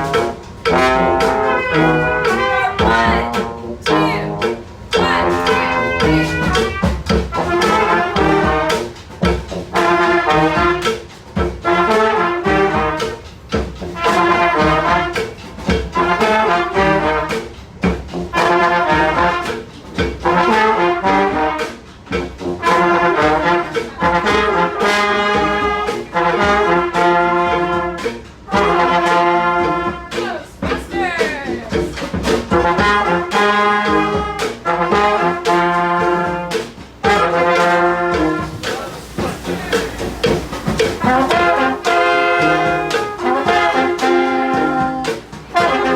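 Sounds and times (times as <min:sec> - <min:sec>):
brass band playing: 0:00.0 - 0:45.9.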